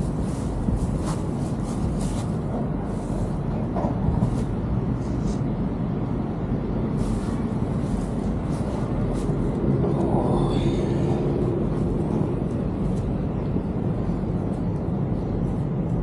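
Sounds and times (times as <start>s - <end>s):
city traffic rumble: 0.0s - 16.0s
louder vehicle with faint tone: 0.0s - 16.0s.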